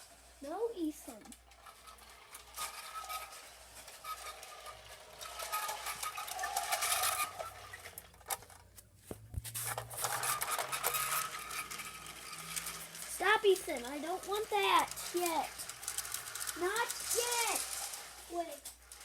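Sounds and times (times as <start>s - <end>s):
model train wheels rumbling: 0.0s - 8.7s, 9.6s - 19.0s.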